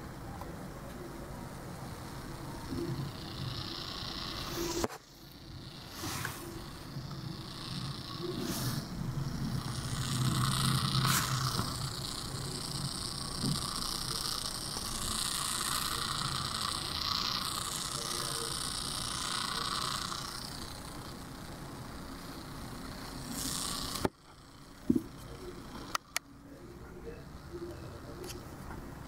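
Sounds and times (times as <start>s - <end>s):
steady electronic hiss: 0.0s - 29.0s.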